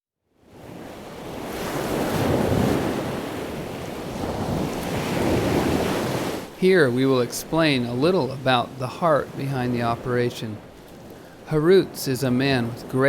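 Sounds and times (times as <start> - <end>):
sea waves washing in: 0.4 - 13.0.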